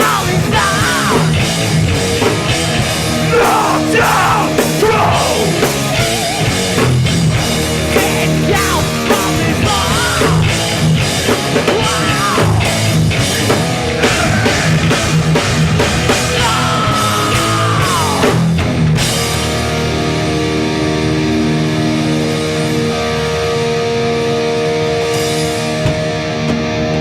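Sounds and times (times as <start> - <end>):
drum kit: 0.0 - 20.8, 24.3 - 26.7
distorted electric guitars: 0.0 - 27.0.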